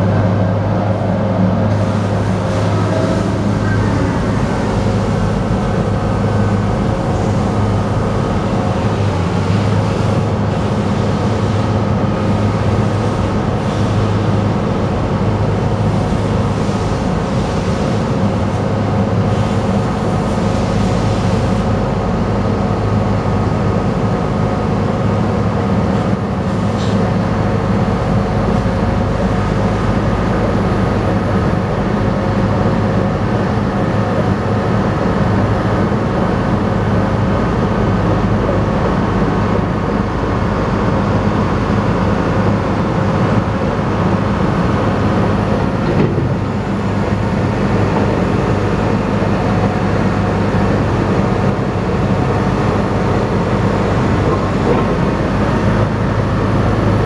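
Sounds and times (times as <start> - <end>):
diesel engine under hydraulic load: 0.0 - 57.0.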